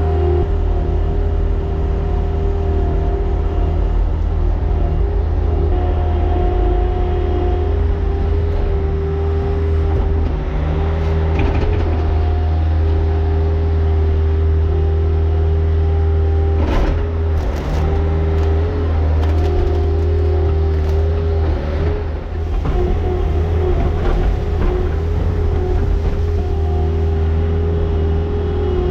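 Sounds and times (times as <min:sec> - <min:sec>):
engine humming with whine: 0:00.0 - 0:28.9.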